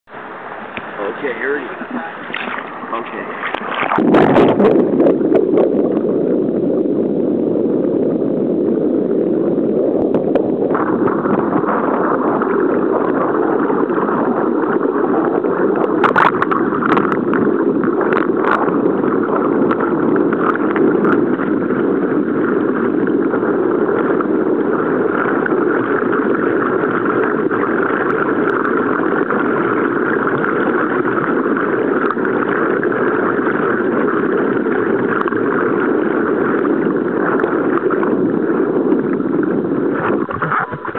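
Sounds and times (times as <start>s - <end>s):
boat motor drone: 0.1s - 40.9s
underwater rushing water: 0.1s - 40.9s.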